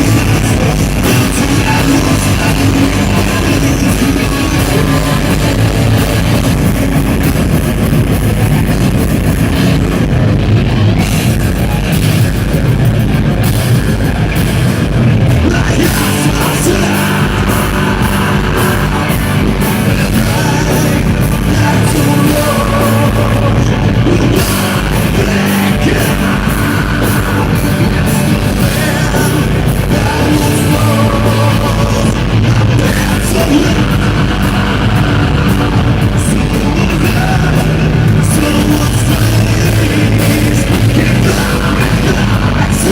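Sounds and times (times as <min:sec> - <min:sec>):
person singing: 0:00.0 - 0:08.2, 0:15.2 - 0:42.9
heavy rock band playing: 0:00.0 - 0:42.9.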